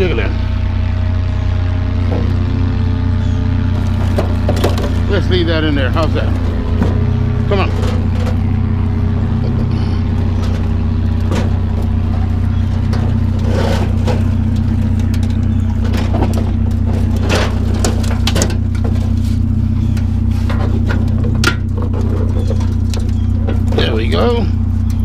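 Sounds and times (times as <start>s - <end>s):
vehicle engine idling: 0.0s - 25.0s
metal knocks and scrapes: 3.7s - 24.9s.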